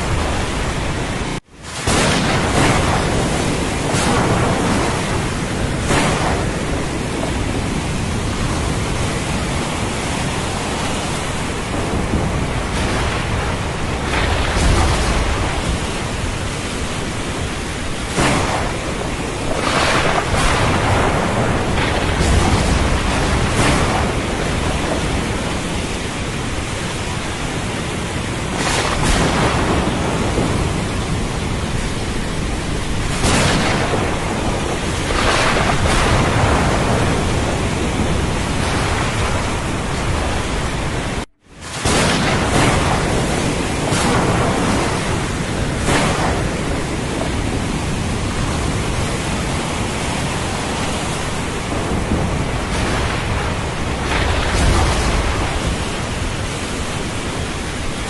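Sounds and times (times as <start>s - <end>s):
ocean surf: 0.0s - 58.0s
thunderstorm rain: 0.0s - 58.0s.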